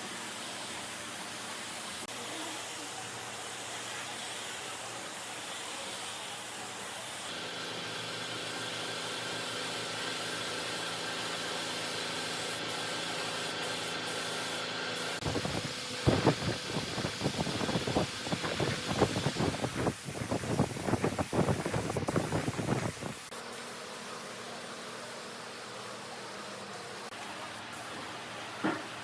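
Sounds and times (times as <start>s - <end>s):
hissing workshop machine: 0.0s - 29.0s.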